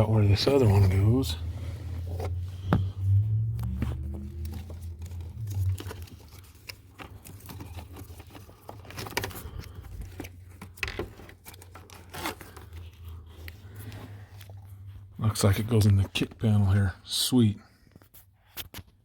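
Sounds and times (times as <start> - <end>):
wiring harness rustling and scraping: 0.0 - 16.9.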